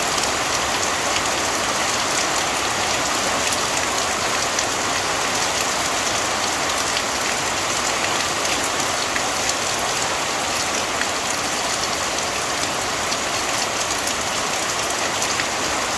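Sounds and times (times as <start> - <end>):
steady rainfall: 0.0 - 15.9.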